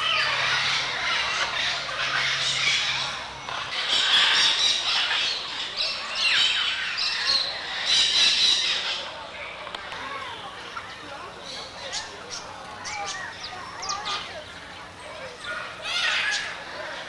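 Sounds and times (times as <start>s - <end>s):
birds squawking: 0.0s - 9.6s, 10.4s - 17.0s.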